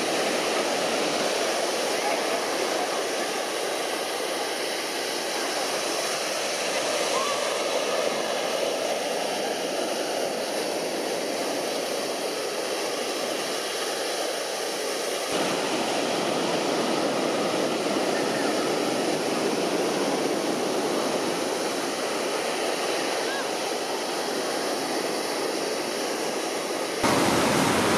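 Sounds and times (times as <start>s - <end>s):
crowded beach ambience: 0.0s - 27.9s.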